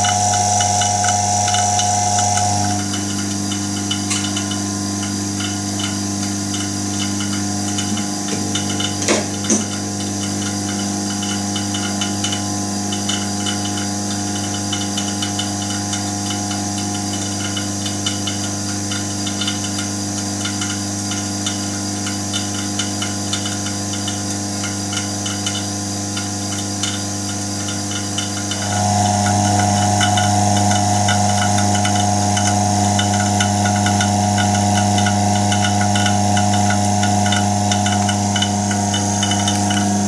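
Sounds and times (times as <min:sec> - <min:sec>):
vacuum pump humming and ticking: 0:00.0 - 0:40.0.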